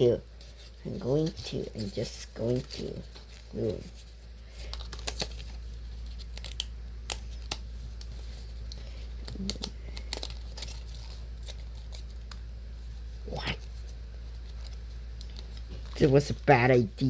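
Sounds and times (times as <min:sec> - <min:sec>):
paper rustling and crinkling: 0:00.0 - 0:16.6
steady low hum: 0:00.0 - 0:17.0.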